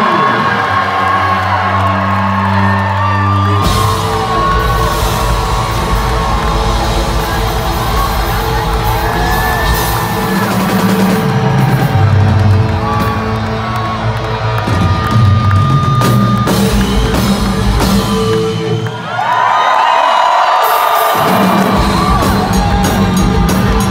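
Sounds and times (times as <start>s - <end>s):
singer and crowd yelling: 0.0s - 23.9s
live rock band playing: 1.3s - 18.9s, 20.6s - 23.9s
drums and cymbals crashing: 2.6s - 19.1s, 20.6s - 23.9s.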